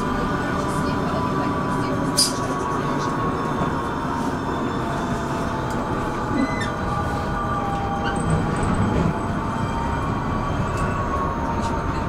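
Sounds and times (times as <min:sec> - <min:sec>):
tram rumbling on rails: 0:00.0 - 0:12.0.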